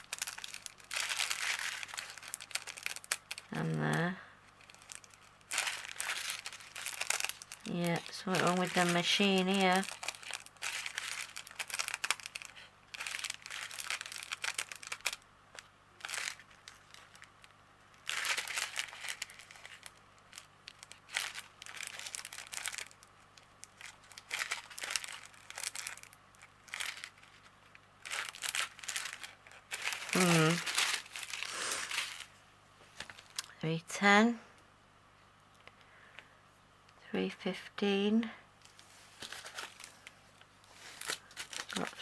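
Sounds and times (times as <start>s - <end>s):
plastic bags crinkling: 0.0s - 33.6s, 38.6s - 42.0s.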